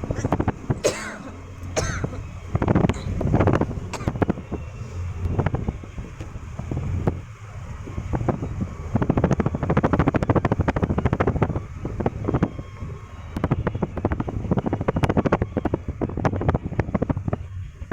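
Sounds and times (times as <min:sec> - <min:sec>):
car interior engine rumble: 0:00.0 - 0:17.9
rapid rattling clatter: 0:00.0 - 0:17.9
wind on microphone: 0:00.0 - 0:17.9.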